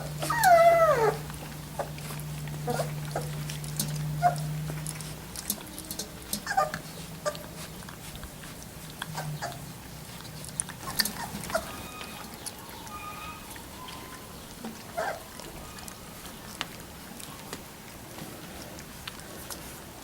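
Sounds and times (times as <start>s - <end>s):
puppies squeaking and whimpering: 0.0s - 17.6s.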